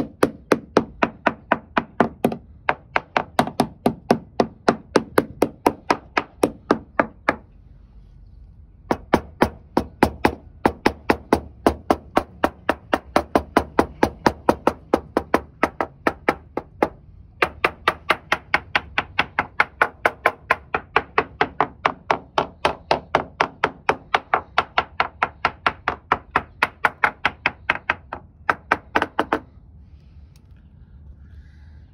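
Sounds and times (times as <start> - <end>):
hammer tapping on fiberglass: 0.0 - 7.5, 8.9 - 29.5.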